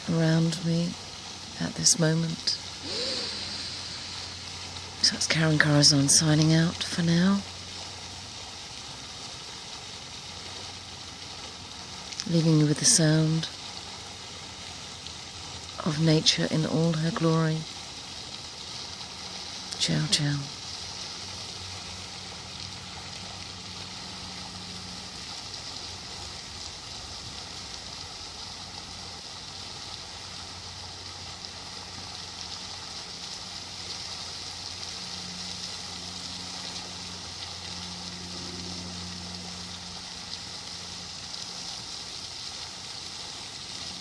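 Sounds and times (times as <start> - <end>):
low steady hum: 0.0 - 44.0
stream running: 0.0 - 44.0.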